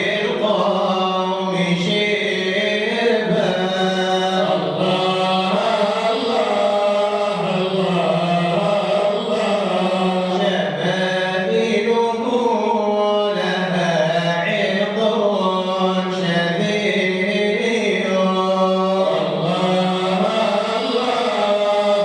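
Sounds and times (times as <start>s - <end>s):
man chanting unaccompanied: 0.0s - 22.0s.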